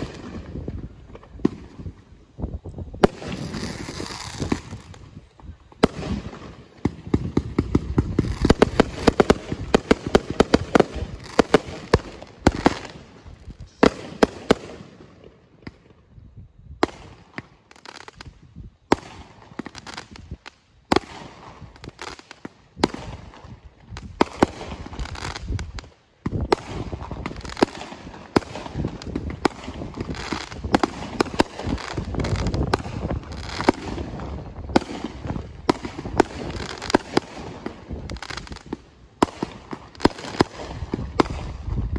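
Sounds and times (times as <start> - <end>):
fireworks bangs: 0.0 - 16.0, 16.8 - 41.9.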